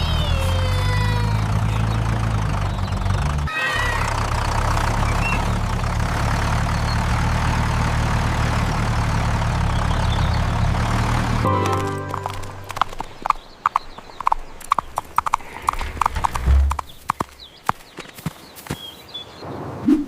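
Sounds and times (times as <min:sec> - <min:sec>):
tractor engine idling: 0:00.0 - 0:17.6.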